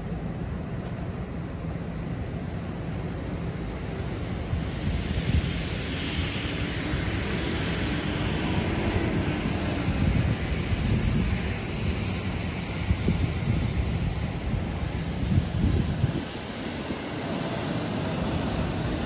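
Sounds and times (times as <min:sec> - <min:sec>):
faint engine drone: 0:00.0 - 0:19.0
wind buffeting microphone: 0:02.6 - 0:19.0
hiss: 0:02.8 - 0:19.0.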